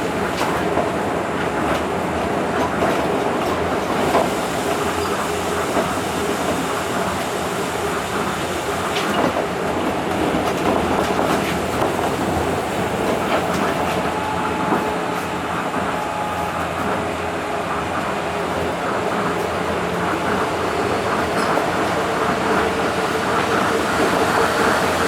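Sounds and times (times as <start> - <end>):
monorail train rumble and hiss: 0.0 - 25.0.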